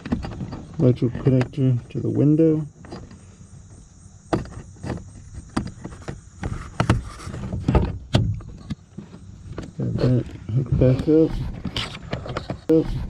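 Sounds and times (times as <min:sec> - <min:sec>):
rubbing and rattling: 0:00.0 - 0:13.0.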